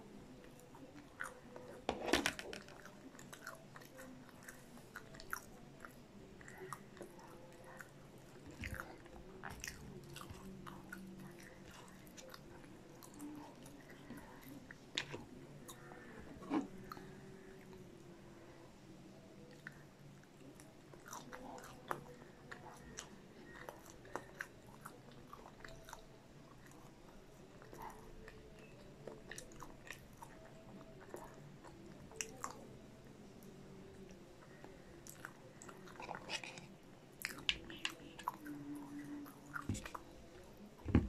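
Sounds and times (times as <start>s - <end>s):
chewing and crunching: 0.0s - 40.8s.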